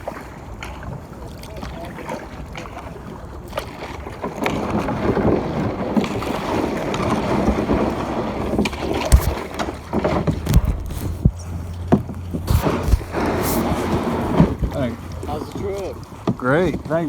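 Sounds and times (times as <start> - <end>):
water splashing around kayak: 0.0 - 17.0.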